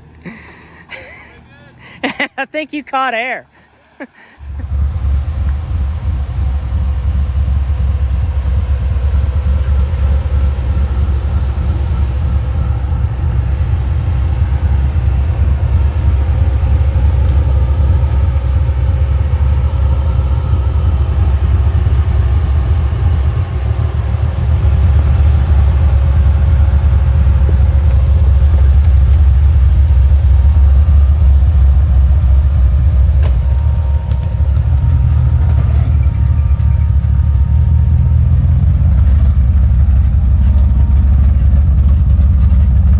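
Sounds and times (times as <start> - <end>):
vehicle engine running low revs: 0.0 - 2.3, 3.4 - 42.9.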